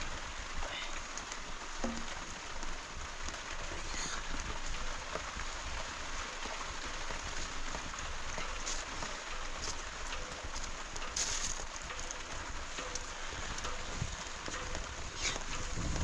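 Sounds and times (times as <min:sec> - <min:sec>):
scattered drips and ticks: 0:00.0 - 0:16.0
steady rain falling: 0:00.0 - 0:16.0.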